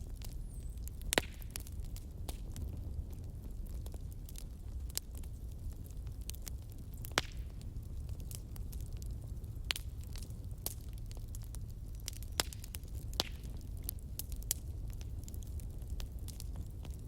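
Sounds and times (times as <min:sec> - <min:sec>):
fireplace fire crackling: 0:00.0 - 0:17.0
sharp pops of fire: 0:00.1 - 0:17.0.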